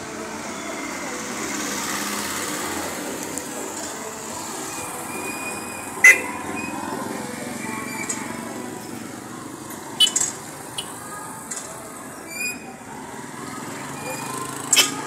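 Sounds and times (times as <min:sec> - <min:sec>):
motorcycle tricycles driving past: 0:00.0 - 0:15.0
traffic and people din: 0:00.0 - 0:15.0.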